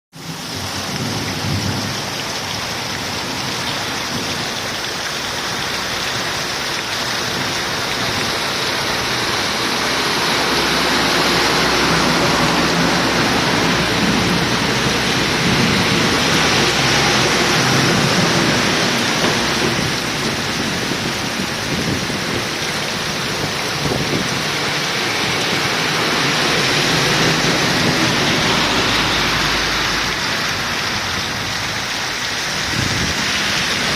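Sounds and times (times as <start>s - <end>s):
heavy rain pouring: 0.1s - 33.9s.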